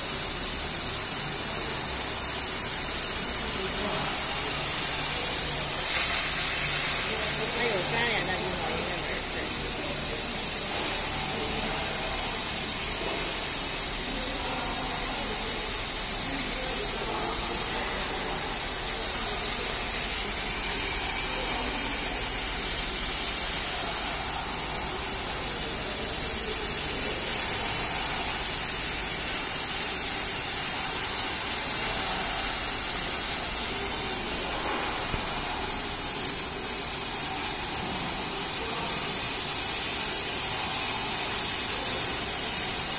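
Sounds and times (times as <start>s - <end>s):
laser cutter airy hiss: 0.0s - 42.9s.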